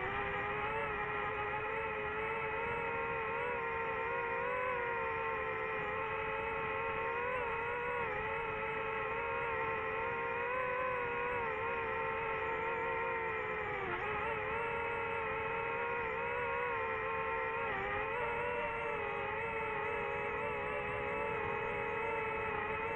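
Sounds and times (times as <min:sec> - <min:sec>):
drone propellers whining: 0:00.0 - 0:22.9.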